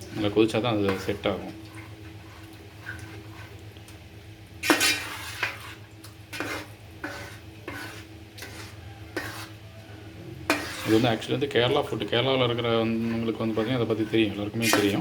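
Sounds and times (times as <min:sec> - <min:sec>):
spoon scraping a cooking pot: 0:00.7 - 0:03.6, 0:04.6 - 0:09.8, 0:10.4 - 0:15.0.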